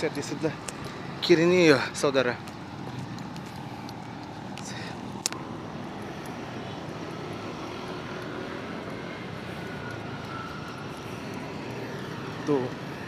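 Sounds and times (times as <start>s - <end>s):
cars passing on road: 0.0s - 13.0s.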